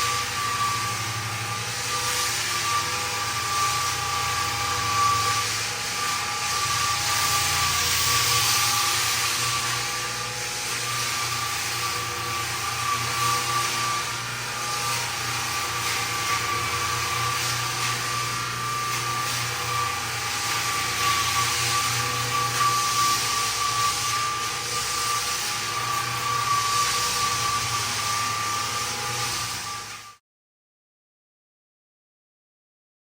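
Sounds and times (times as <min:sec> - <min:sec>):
floor sander motor whine: 0:00.0 - 0:30.2
sanding drum hiss: 0:00.0 - 0:30.2.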